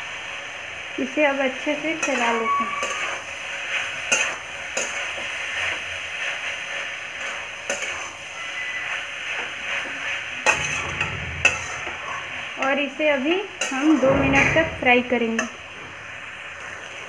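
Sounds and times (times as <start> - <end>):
food sizzling in a pan: 0.0 - 17.0
spatula scraping a pan: 1.7 - 17.0.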